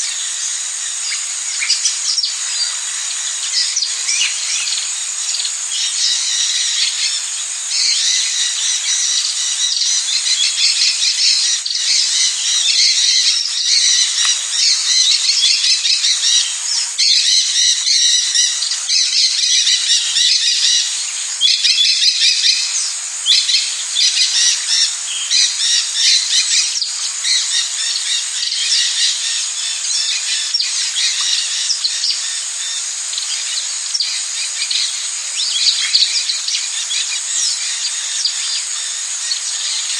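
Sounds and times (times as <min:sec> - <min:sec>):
high-pitched insect drone: 0:00.0 - 0:39.9
bird calls and squawks: 0:01.1 - 0:39.9.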